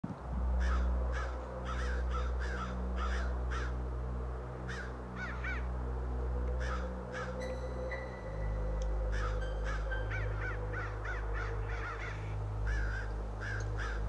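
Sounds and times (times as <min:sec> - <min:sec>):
steady low drone: 0:00.0 - 0:14.0
crows cawing: 0:00.6 - 0:05.7, 0:06.6 - 0:08.1, 0:09.0 - 0:14.0.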